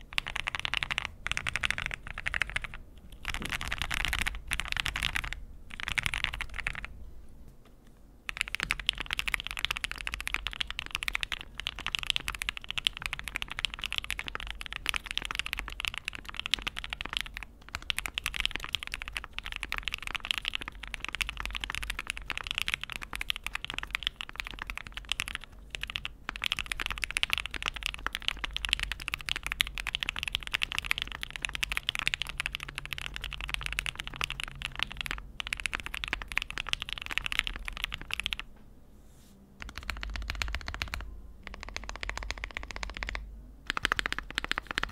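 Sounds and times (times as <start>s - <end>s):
mechanical keyboard typing: 0.0s - 6.9s, 8.3s - 38.5s, 39.6s - 44.9s.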